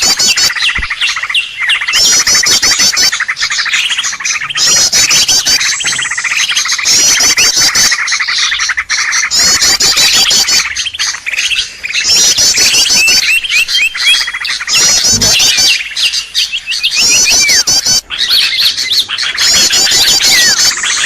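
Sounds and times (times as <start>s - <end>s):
high rising bird notes: 0.0s - 21.0s
small birds chirping: 0.0s - 21.0s.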